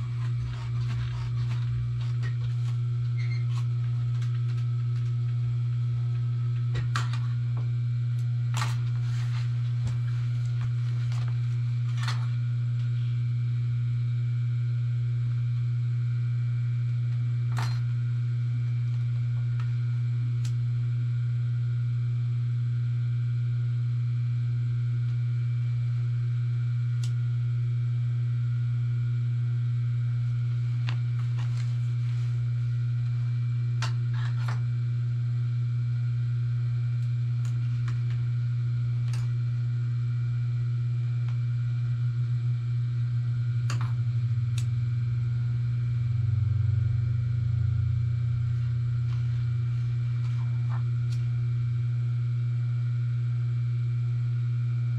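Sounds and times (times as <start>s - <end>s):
electric motor hum: 0.0s - 54.9s.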